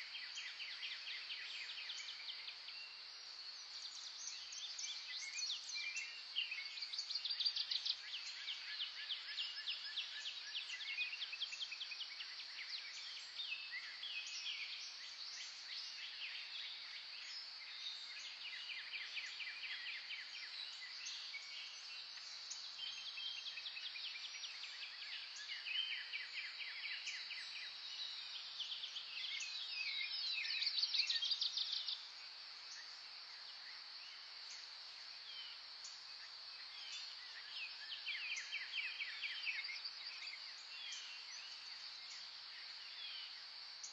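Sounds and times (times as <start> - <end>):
songbirds trilling and chirping: 0.0 - 43.9.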